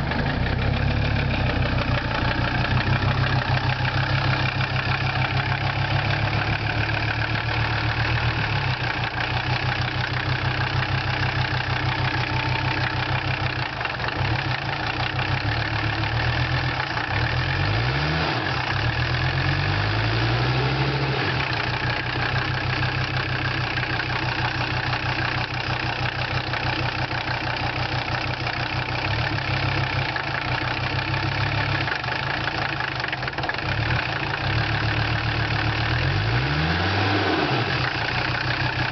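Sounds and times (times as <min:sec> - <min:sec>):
diesel engine idling: 0:00.0 - 0:17.8, 0:21.3 - 0:36.4, 0:37.8 - 0:38.9.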